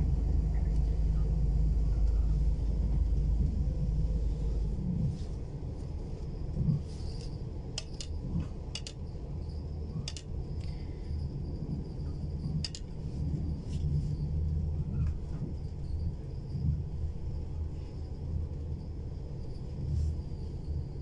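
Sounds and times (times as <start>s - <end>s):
train rumble inside carriage: 0.0s - 21.0s.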